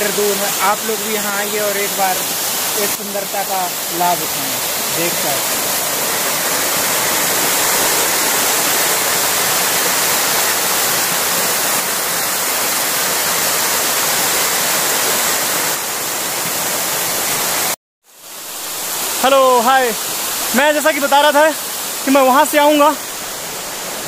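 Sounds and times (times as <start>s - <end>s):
waterfall rushing over rocks: 0.0s - 24.0s.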